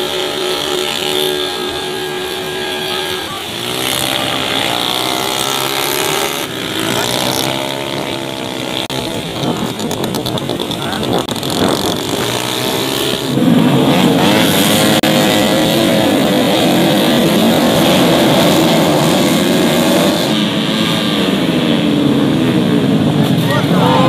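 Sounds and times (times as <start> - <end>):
racing motorcycles passing at high revs: 0.0 - 24.0.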